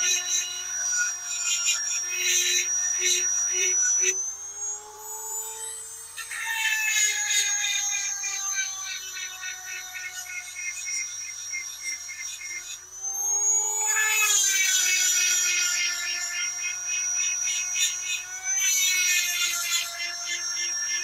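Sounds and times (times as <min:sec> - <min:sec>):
chain sharpener motor whining: 0:00.0 - 0:21.0.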